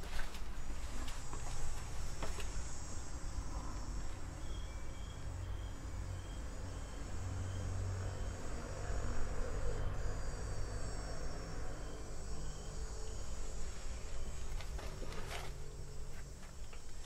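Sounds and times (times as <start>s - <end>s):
insects shrilling drone: 0.0s - 17.0s.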